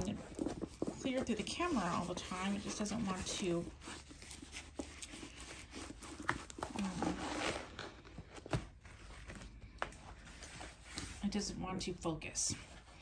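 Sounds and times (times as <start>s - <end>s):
paper and plastic rustling: 0.0s - 11.3s.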